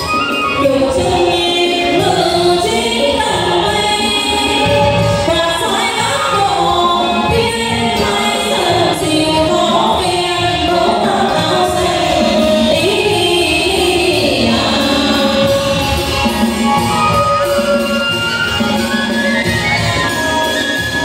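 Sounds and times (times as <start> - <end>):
group singing with instruments: 0.0 - 21.0.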